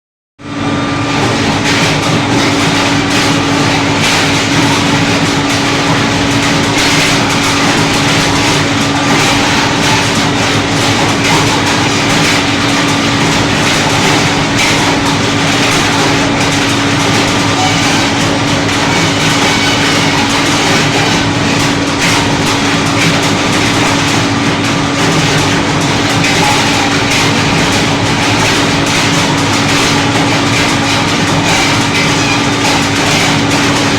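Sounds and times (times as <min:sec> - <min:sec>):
dense machine rattle: 0:00.5 - 0:33.9.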